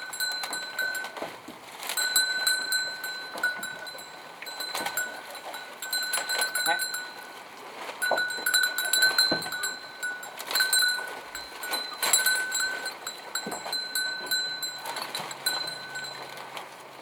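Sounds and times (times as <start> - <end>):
high-pitched ringing tone: 0.0 - 1.3, 2.0 - 7.4, 8.0 - 16.4.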